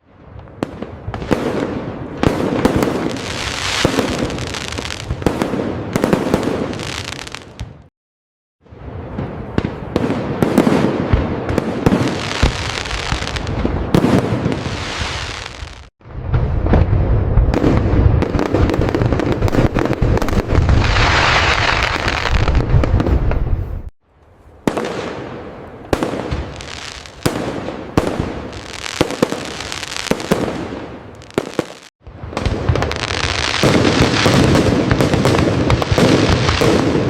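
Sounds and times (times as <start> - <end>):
fireworks booming: 0.2 - 7.9, 8.6 - 23.9, 24.6 - 37.0
fireworks crackling: 0.2 - 7.9, 8.8 - 23.9, 24.6 - 37.0
fireworks pops and cracks: 0.3 - 7.9, 9.2 - 23.6, 25.9 - 37.0.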